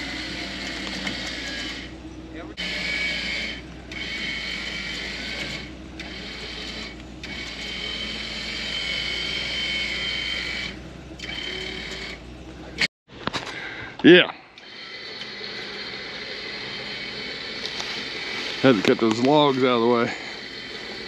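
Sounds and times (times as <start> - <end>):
electric winch motor whining: 0.0 - 12.9, 13.5 - 21.0.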